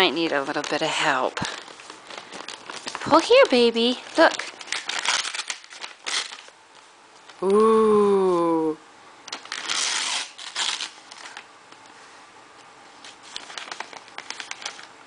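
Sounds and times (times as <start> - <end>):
wrapping paper rustling: 0.0 - 7.6, 9.3 - 11.8, 12.9 - 15.0.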